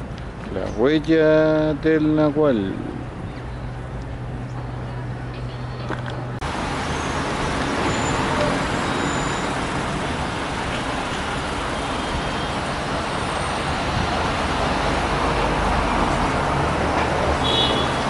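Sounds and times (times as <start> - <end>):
slow street traffic: 0.0 - 18.0.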